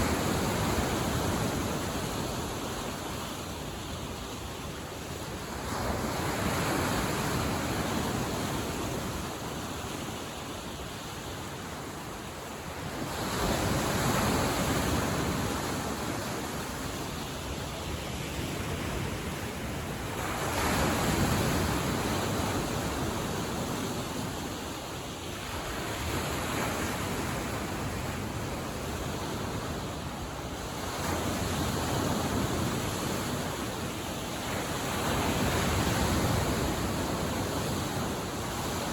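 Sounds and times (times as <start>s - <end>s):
waves breaking on shore: 0.0s - 38.9s
wind on microphone: 0.0s - 38.9s.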